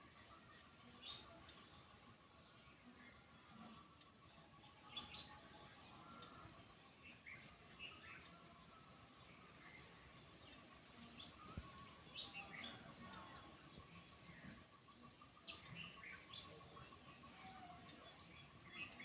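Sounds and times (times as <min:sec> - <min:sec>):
faint bird chirps: 0:00.0 - 0:19.0
faint steady high tone: 0:00.0 - 0:19.0.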